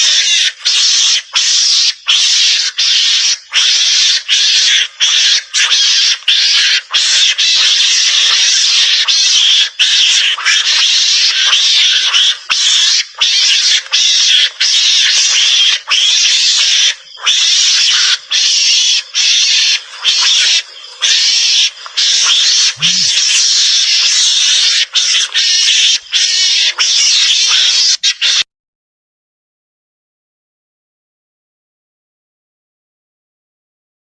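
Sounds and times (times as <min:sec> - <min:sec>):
mongoose calls harsh rasping chatter: 0:00.0 - 0:28.5.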